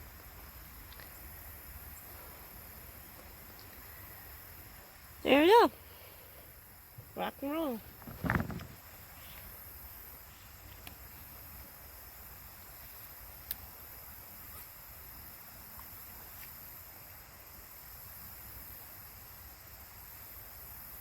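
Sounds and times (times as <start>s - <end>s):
faint outdoor background noise: 0.0s - 21.0s.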